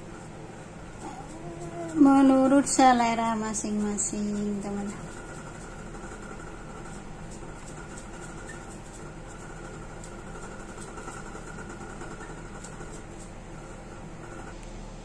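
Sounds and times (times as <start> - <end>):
small motor humming: 0.0 - 14.6.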